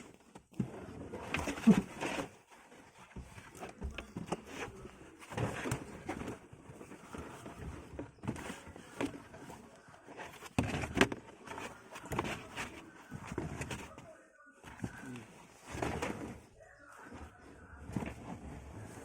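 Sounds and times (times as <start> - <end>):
floor mat rustling and scraping: 0.0 - 19.0.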